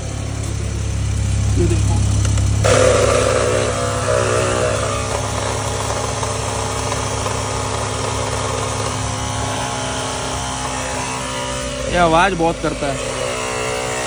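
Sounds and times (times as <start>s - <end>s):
air compressor humming: 0.0s - 14.0s.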